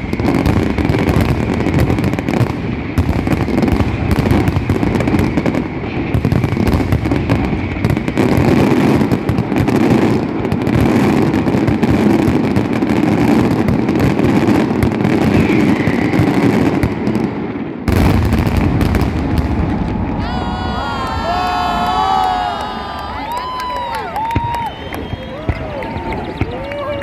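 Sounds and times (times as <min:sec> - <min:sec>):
fireworks bangs and crackles: 0:00.0 - 0:22.4, 0:23.0 - 0:27.0.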